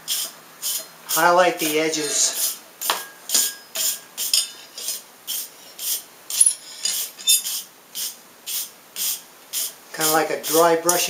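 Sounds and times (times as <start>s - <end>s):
wire brush scrubbing steel: 0.1s - 2.6s, 3.3s - 11.0s.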